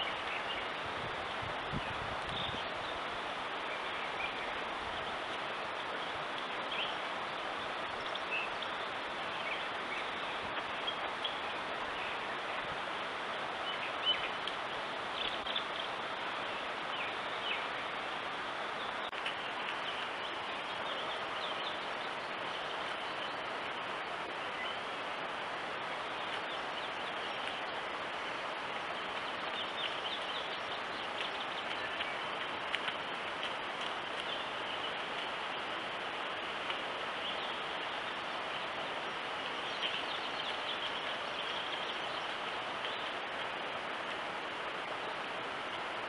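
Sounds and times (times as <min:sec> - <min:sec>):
outdoor ambience hiss: 0:00.0 - 0:46.0.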